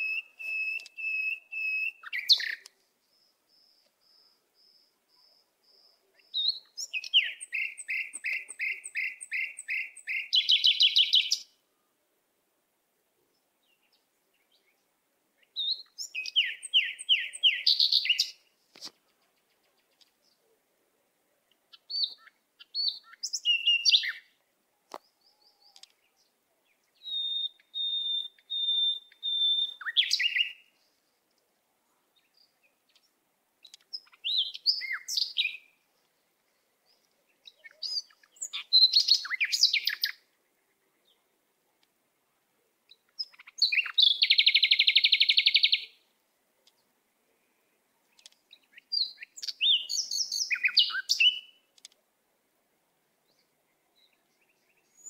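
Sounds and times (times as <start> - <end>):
small songbirds singing: 0.0 - 12.0, 13.3 - 20.8, 21.4 - 41.9, 42.8 - 52.1, 53.0 - 55.0.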